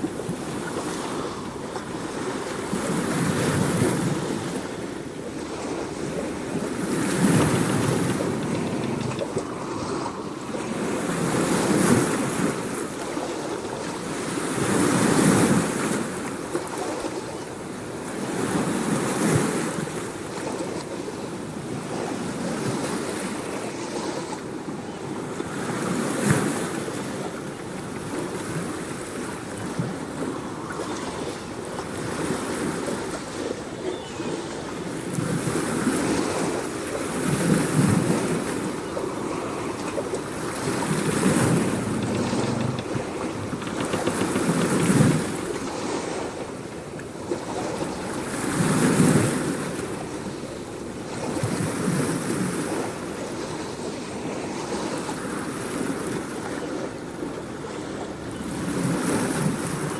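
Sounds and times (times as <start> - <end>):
waves rushing: 0.0 - 59.9.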